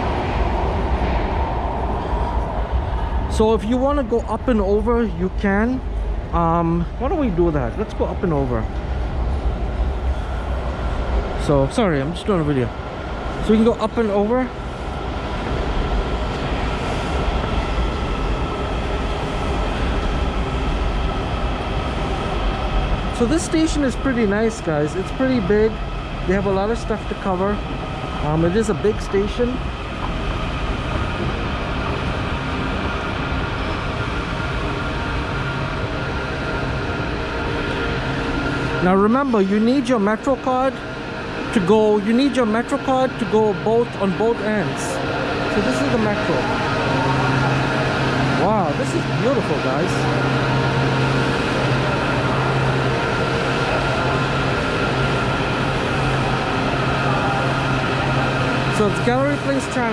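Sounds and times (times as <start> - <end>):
metro train rumble: 0.0 - 59.9.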